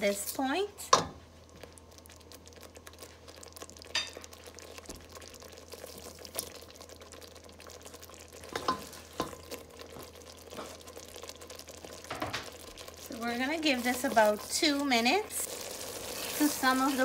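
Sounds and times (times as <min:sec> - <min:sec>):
curry paste sizzling in a pot: 0:00.0 - 0:17.0.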